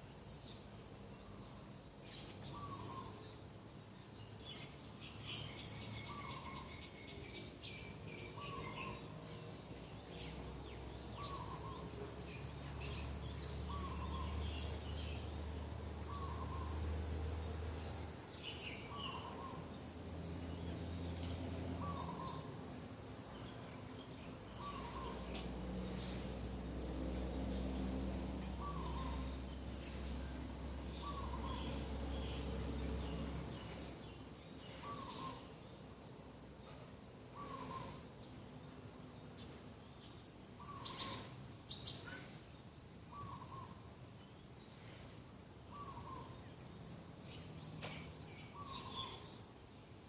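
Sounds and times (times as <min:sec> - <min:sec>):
birds chirping: 0:00.0 - 0:49.7.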